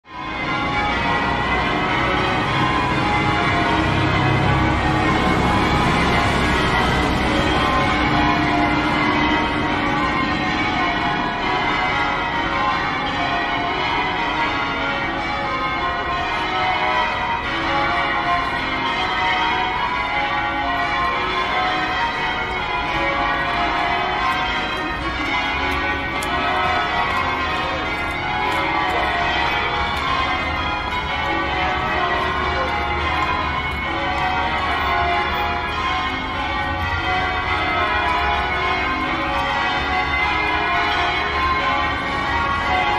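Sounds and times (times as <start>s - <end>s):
church bells ringing: 0.0s - 42.9s.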